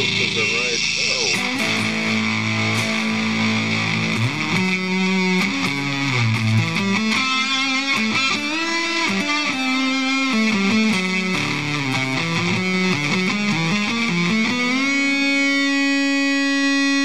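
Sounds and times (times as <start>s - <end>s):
fuzzed electric guitar: 0.0s - 17.0s.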